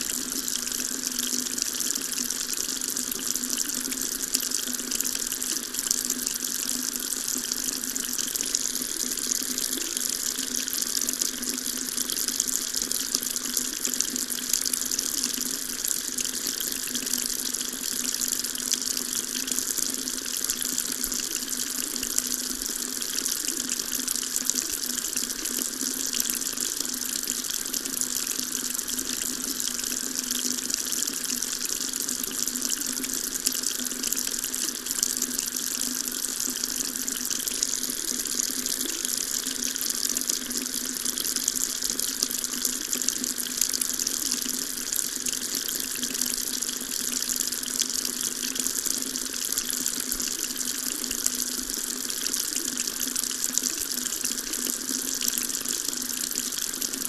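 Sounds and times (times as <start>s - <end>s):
water running from a tap into a sink: 0.0s - 57.0s.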